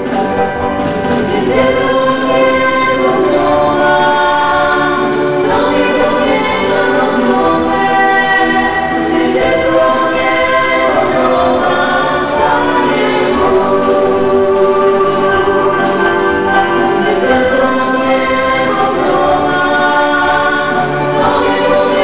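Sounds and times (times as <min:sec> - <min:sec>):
piano: 0:00.0 - 0:22.0
women singing in harmony: 0:01.1 - 0:22.0.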